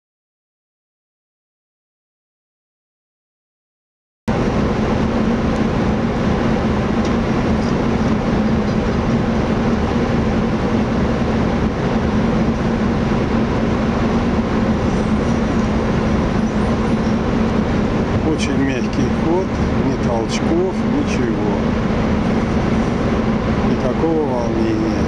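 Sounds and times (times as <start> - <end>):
ferry engine drone: 4.3 - 25.0.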